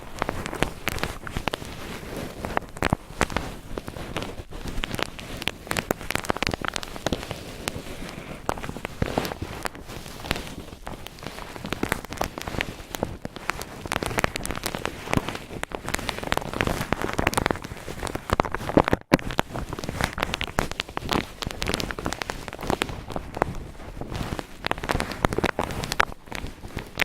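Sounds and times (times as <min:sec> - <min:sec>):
cotton ball rubbed near microphone: 0:00.0 - 0:27.0.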